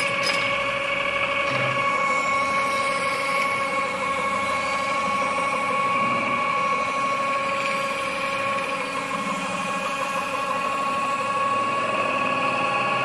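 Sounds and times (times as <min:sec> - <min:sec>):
lathe whining: 0:00.0 - 0:13.0.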